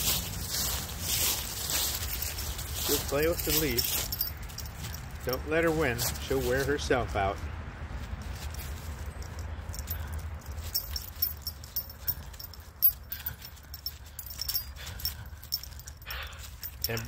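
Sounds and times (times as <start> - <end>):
collar tag and clip jingling: 0.0 - 7.0, 8.0 - 17.0.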